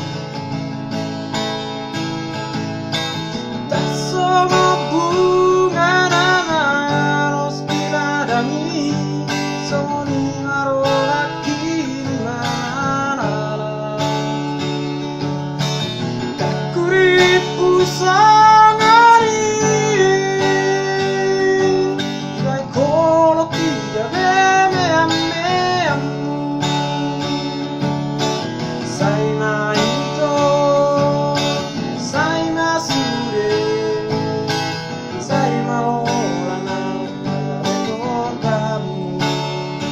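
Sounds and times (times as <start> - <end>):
man singing: 0.0 - 0.4, 3.6 - 15.4, 16.4 - 39.9
strummed acoustic guitar: 0.0 - 39.9.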